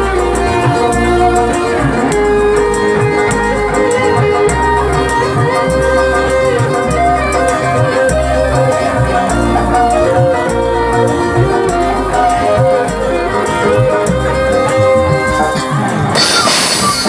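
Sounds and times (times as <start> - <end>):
bass guitar: 0.0 - 17.0
drum and tambourine rhythm: 0.0 - 17.0
held melody line: 0.0 - 17.0
live band playing: 0.0 - 17.0.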